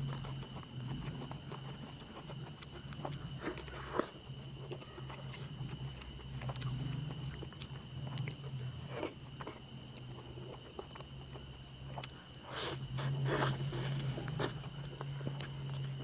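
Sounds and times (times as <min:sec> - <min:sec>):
steady low hum: 0:00.0 - 0:16.0
wet chewing and tearing meat: 0:00.0 - 0:16.0.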